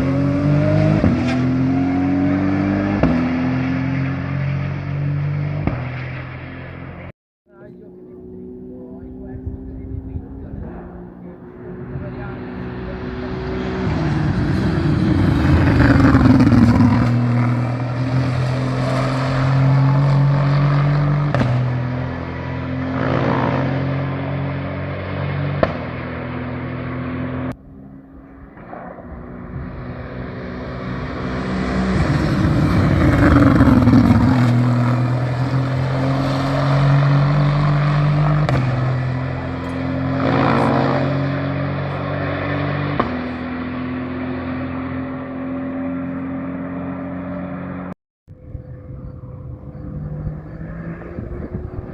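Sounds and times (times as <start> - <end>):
race cars passing at speed: 0.0 - 51.9.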